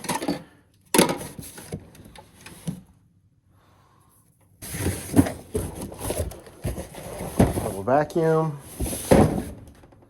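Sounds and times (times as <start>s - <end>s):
boxes and plastic cases rustling: 0.0s - 3.0s, 4.6s - 10.0s.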